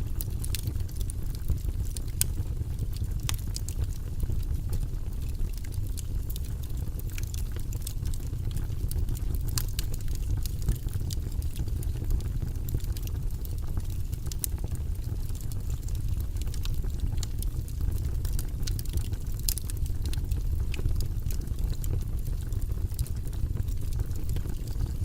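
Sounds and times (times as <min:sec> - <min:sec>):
fire crackling and popping: 0:00.0 - 0:25.0
fire flames rumbling: 0:00.0 - 0:25.0.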